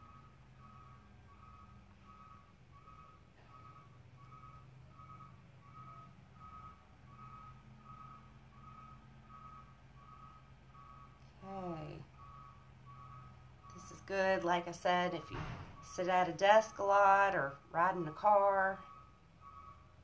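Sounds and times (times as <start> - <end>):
low steady hum: 0.0 - 20.0
truck backup alarm beeping: 0.0 - 20.0.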